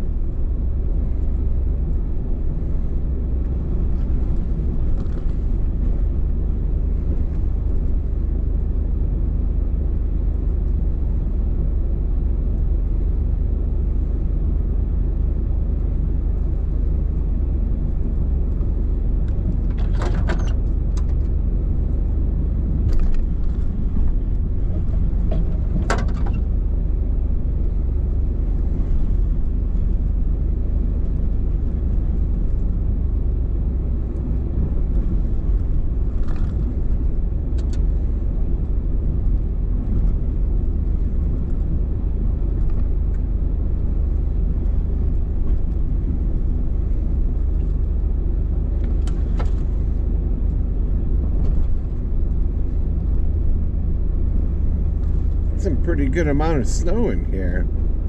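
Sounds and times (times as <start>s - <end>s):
truck engine and tyres rumbling: 0.0s - 58.0s.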